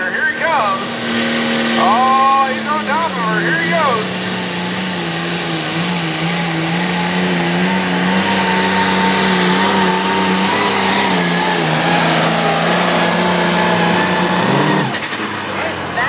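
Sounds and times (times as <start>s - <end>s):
diesel engine at full throttle: 0.0s - 16.0s.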